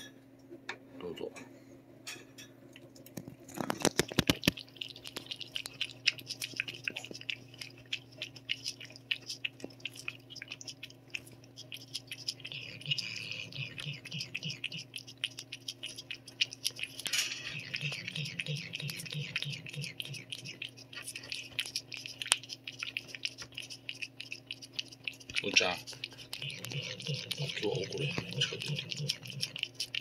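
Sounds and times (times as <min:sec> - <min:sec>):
cat licking: 0:02.8 - 0:30.0.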